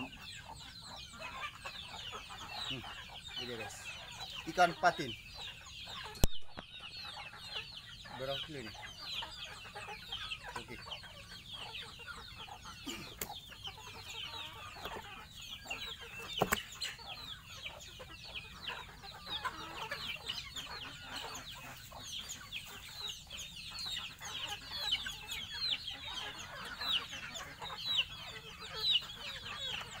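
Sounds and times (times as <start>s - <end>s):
chicks cheeping: 0.0s - 30.0s.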